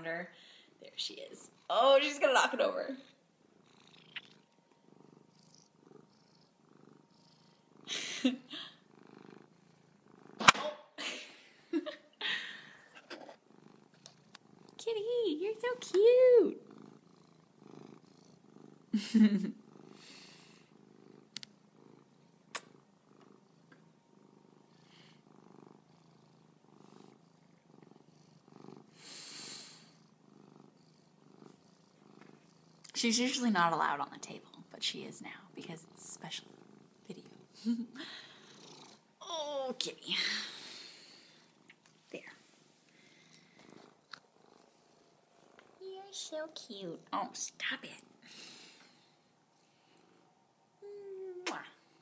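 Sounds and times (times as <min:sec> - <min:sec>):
cat purring: 0:00.0 - 0:10.5, 0:12.6 - 0:52.0.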